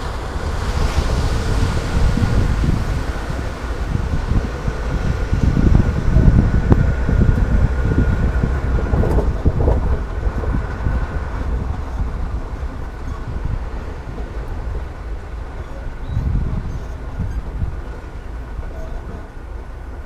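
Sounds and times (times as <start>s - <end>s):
tyres rumbling on road: 0.0s - 20.0s
wind: 0.0s - 20.0s.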